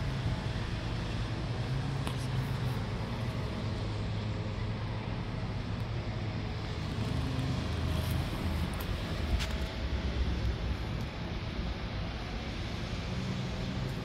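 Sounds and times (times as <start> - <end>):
street traffic engine hum: 0.0 - 14.0.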